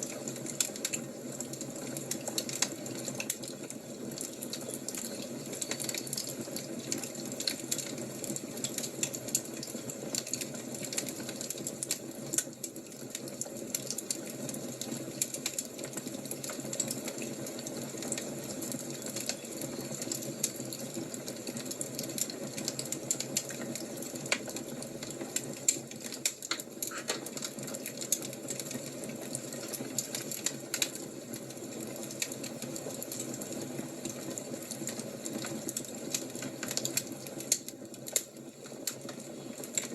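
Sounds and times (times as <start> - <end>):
fire crackling with pops: 0.0 - 39.9.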